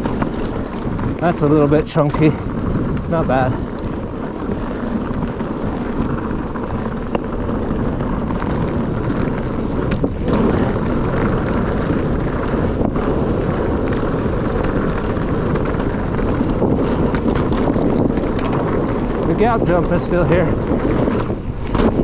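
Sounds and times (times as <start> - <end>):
tyres rolling on dirt trail: 0.0 - 22.0
wind buffeting microphone: 0.0 - 22.0.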